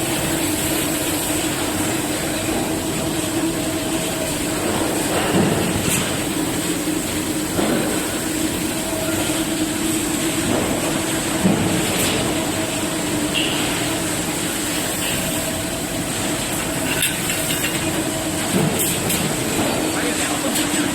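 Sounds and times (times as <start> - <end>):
welding machine hum and hiss: 0.0 - 20.9.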